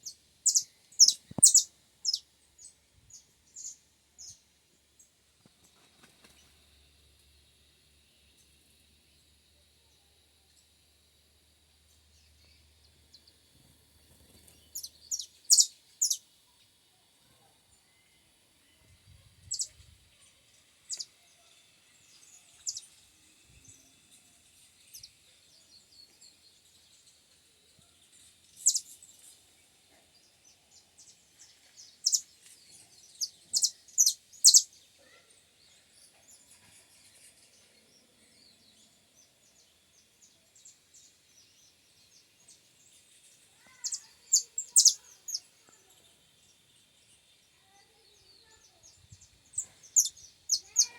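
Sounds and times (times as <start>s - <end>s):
songbird high chirps: 0.0s - 5.1s, 11.7s - 16.9s, 17.7s - 50.9s.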